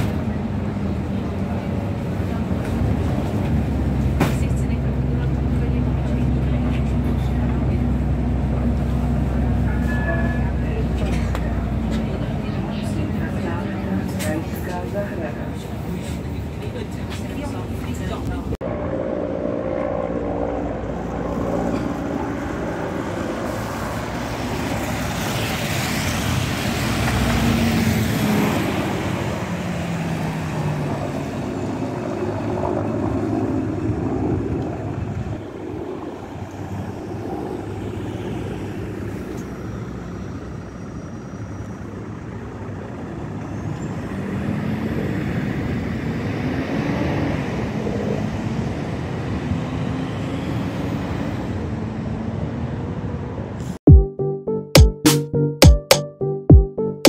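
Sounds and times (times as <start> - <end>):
bus engine driving past: 0.0 - 33.2, 34.4 - 53.8
road traffic noise: 0.0 - 53.8.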